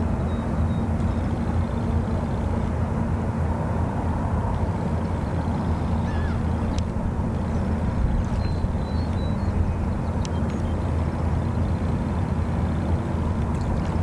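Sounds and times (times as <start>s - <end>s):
outboard motor droning: 0.0s - 14.0s.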